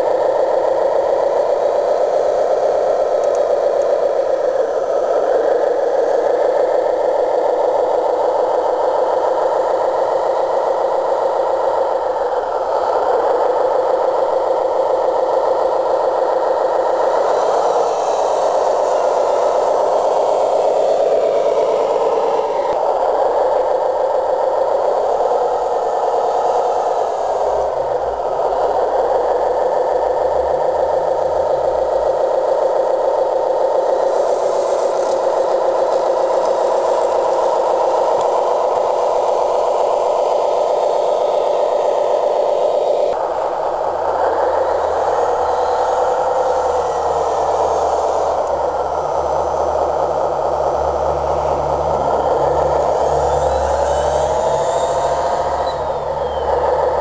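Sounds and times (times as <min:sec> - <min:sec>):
model wheel loader mechanical drone: 0:00.0 - 0:57.0.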